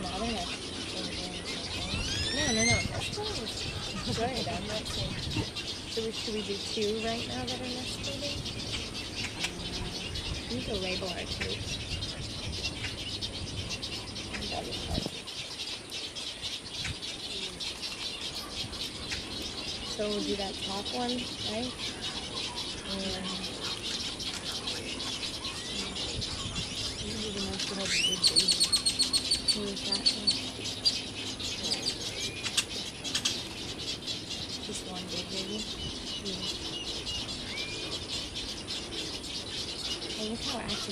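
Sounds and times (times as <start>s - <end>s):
birds chattering: 0.0s - 40.9s
wind rumbling on microphone: 0.0s - 40.9s.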